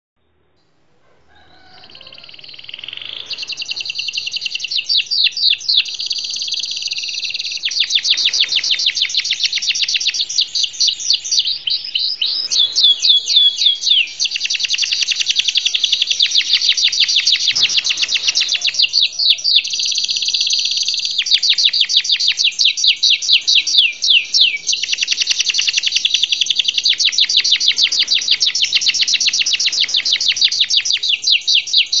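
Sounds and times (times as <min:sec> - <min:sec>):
canary singing trills: 0:00.6 - 0:32.0.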